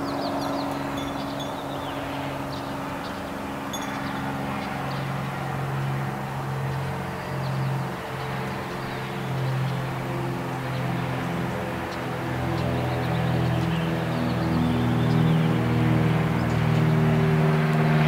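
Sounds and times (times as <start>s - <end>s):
low drone of held tones: 0.0s - 18.0s
small birds chirping: 0.0s - 18.0s.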